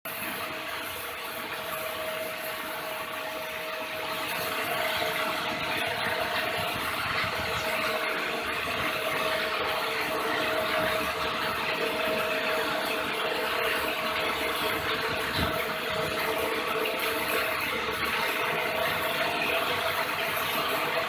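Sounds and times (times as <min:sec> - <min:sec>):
belt-driven machine whine: 0:00.1 - 0:21.0.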